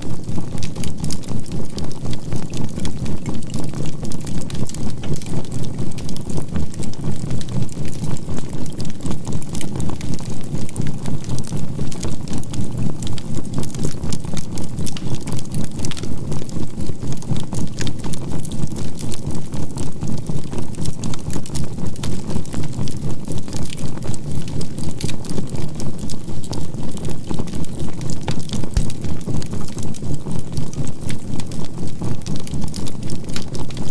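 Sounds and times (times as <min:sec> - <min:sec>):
crackling campfire: 0:00.2 - 0:33.9.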